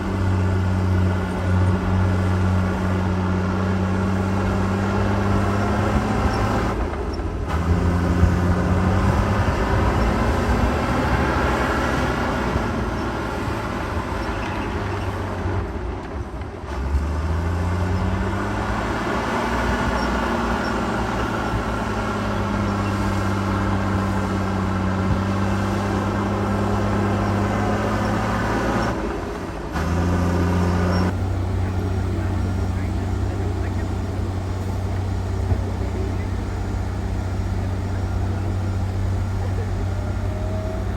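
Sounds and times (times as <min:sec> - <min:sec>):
heavy diesel engine working: 0:00.0 - 0:40.9.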